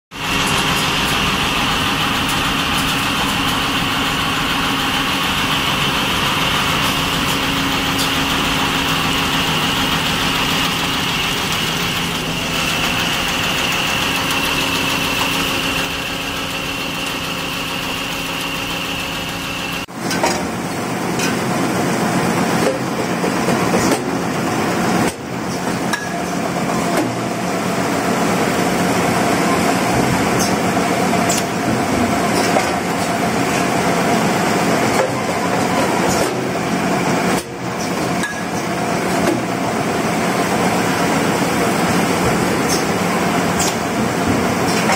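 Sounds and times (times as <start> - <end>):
packaging machine hum and whine: 0.2 - 44.9.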